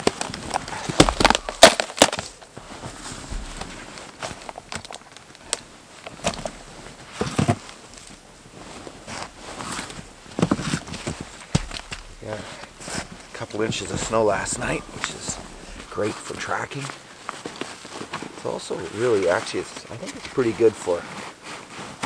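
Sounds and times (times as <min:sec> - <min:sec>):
gear rustling and knocking: 0:00.0 - 0:18.3
sharp crackles: 0:00.0 - 0:18.7
snow crunching: 0:00.0 - 0:19.7.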